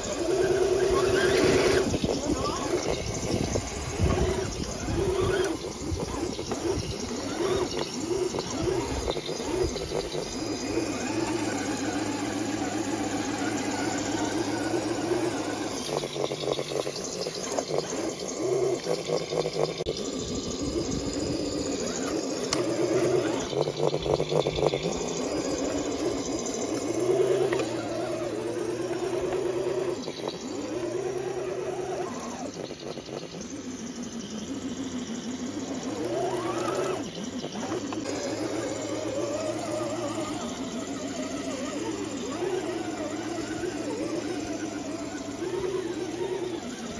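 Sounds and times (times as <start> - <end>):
electric motor whining: 0.0 - 46.9.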